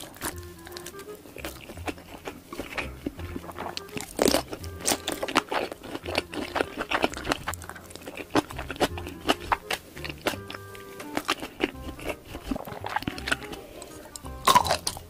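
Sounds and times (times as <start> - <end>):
bite into food: 0.0 - 15.0
chewing with wet mouth clicks: 0.0 - 15.0.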